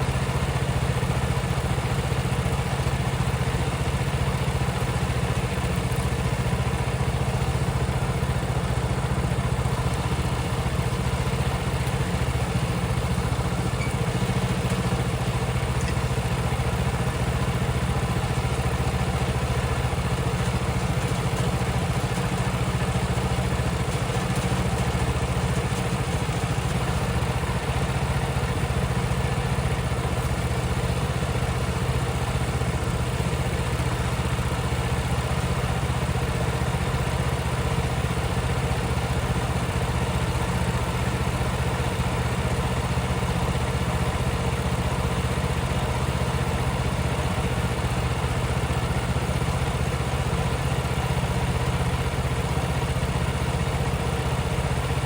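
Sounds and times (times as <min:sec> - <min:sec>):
sawmill engine running: 0:00.0 - 0:55.0
tractor diesel engine running: 0:00.0 - 0:55.0.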